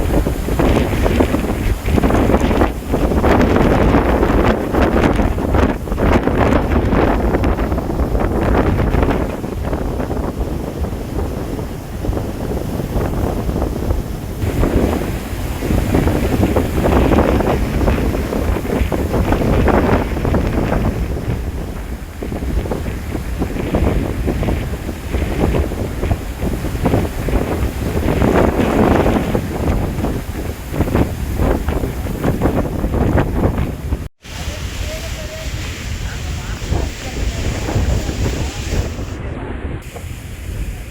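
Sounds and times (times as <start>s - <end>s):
strong wind blasting microphone: 0.0s - 40.9s.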